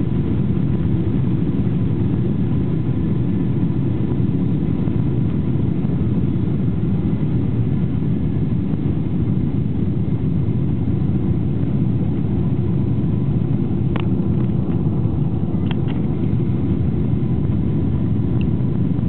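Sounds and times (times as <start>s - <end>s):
aircraft engine and airflow rumble: 0.0s - 19.0s.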